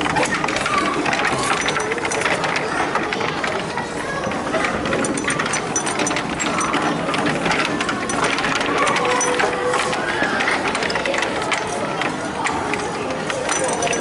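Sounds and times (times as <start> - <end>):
children's voices and shouts: 0.0 - 6.3, 7.6 - 13.2
constant clattering: 0.0 - 14.0
small clicks and rustles: 0.0 - 14.0.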